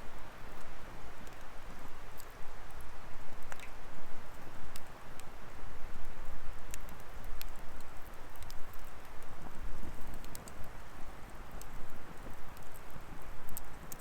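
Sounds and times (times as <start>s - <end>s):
firewood crackling and popping: 0.2s - 14.0s.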